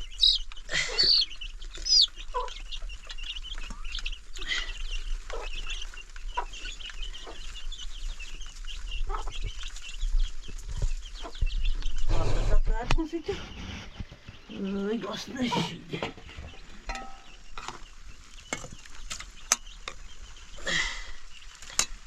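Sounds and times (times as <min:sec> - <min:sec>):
fowl chirping and clucking: 0:00.0 - 0:22.0.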